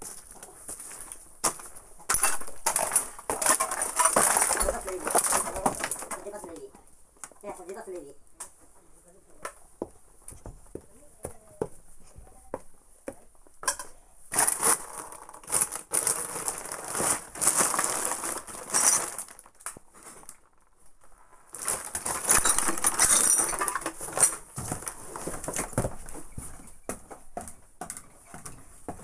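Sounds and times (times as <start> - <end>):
plastic rustling and crinkling: 0.0 - 8.9, 13.7 - 29.0.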